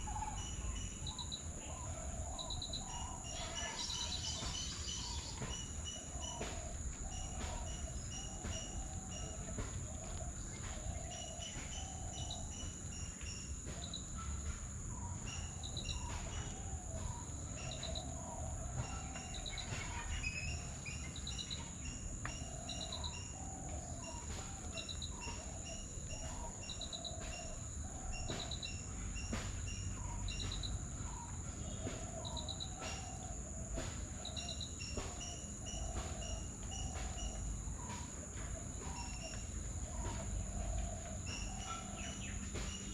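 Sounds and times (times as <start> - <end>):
high insect drone: 0.0 - 42.9.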